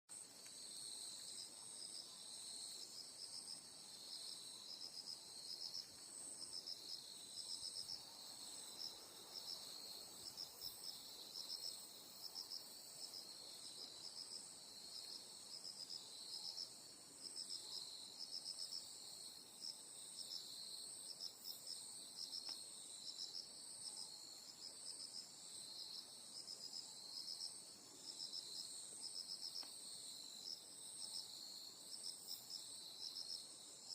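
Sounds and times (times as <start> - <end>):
continuous high insect trill: 0.1 - 33.9.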